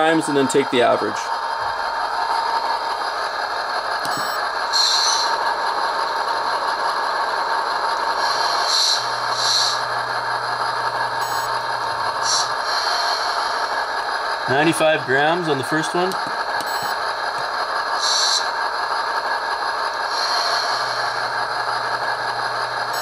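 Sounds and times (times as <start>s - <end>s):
diesel engine sound from small speaker: 0.0s - 23.0s.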